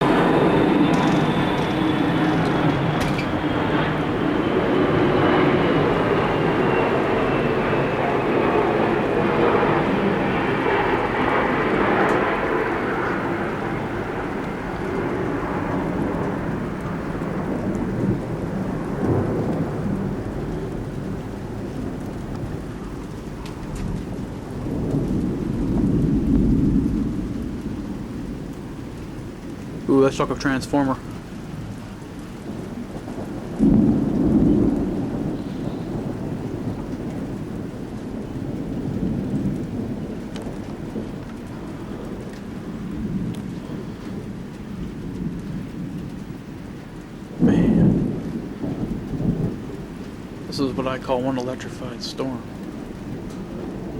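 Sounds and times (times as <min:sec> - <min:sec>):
steady rain: 0:00.0 - 0:53.9
thunder rumbling: 0:00.0 - 0:53.9.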